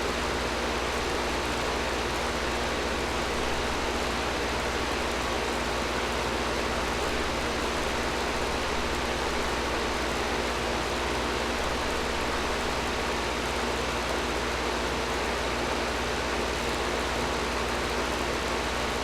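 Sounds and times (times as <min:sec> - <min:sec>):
air conditioner running: 0:00.0 - 0:19.0.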